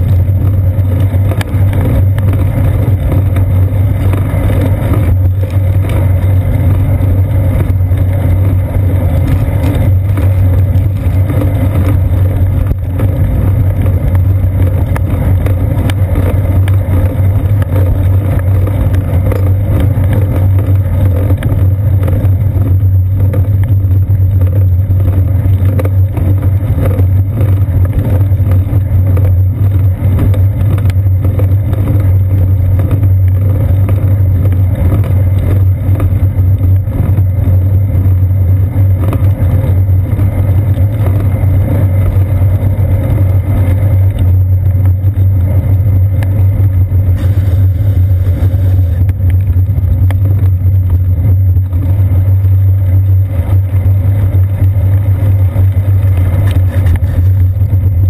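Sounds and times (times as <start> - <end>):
strong low hum: 0.0 - 58.0
wind and road rumble: 0.0 - 58.0.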